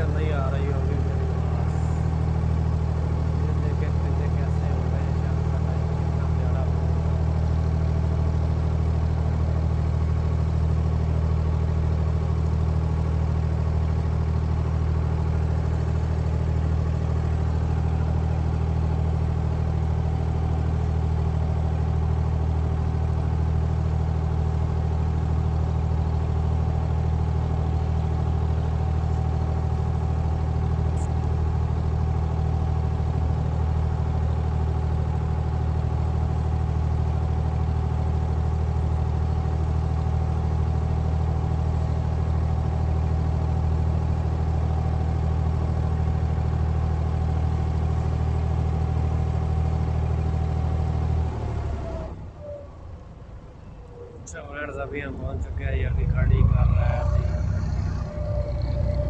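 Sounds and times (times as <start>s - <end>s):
boat diesel engine humming: 0.0s - 59.0s.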